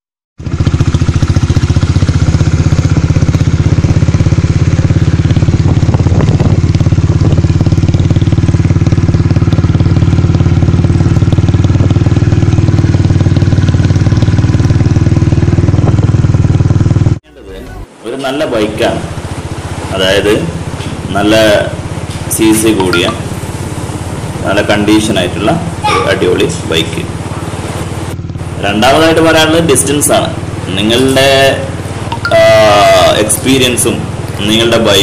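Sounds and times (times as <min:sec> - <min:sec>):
motorcycle engine idling: 0:00.4 - 0:17.2, 0:18.8 - 0:35.0.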